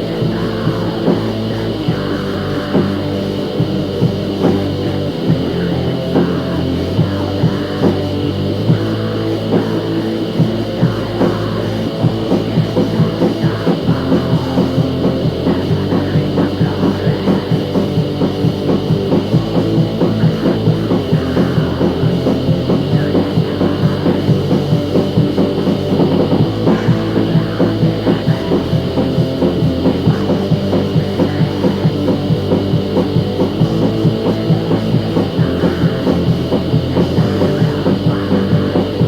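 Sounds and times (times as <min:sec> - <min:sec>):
rock song with drum kit: 0:00.0 - 0:39.0.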